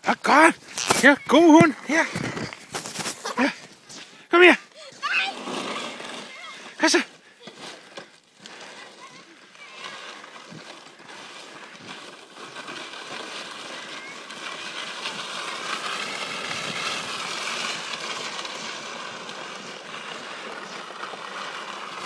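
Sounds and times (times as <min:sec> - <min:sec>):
sled scraping over icy snow: 0:00.0 - 0:22.0.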